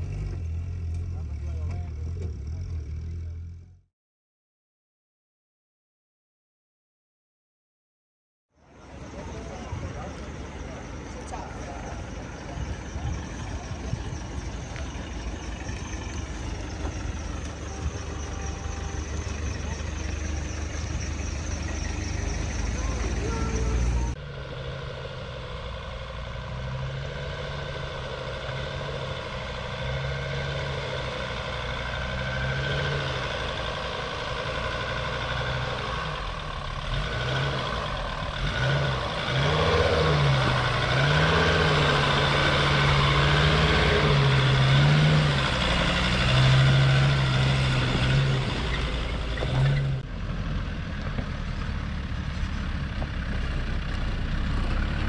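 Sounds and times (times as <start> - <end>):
diesel engine crawling at low speed: 0.0 - 3.9, 8.5 - 55.0
second vehicle engine: 0.0 - 3.9, 8.5 - 55.0.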